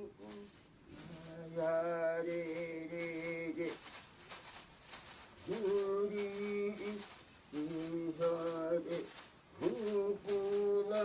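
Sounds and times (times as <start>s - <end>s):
rhythmic rustling of beaten plants: 0.0s - 11.0s.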